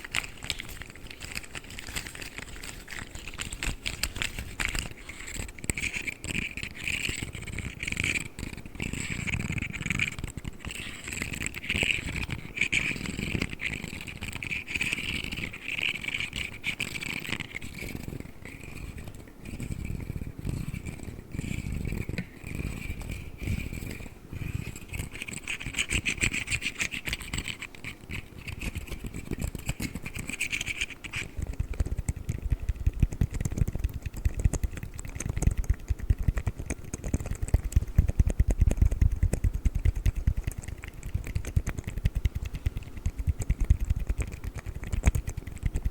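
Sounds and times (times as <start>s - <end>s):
rapid clicking and rattling: 0.0s - 45.9s.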